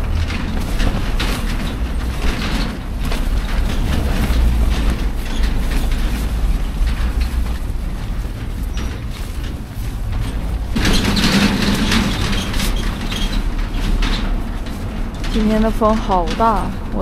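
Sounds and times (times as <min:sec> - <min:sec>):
tent fabric flapping: 0:00.0 - 0:17.0
wind rumble on microphone: 0:00.0 - 0:17.0.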